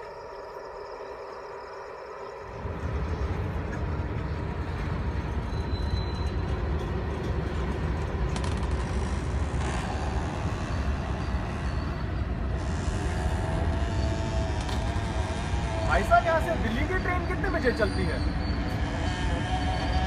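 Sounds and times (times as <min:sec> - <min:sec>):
steady humming tone: 0:00.0 - 0:17.4
train rumbling: 0:00.0 - 0:20.0.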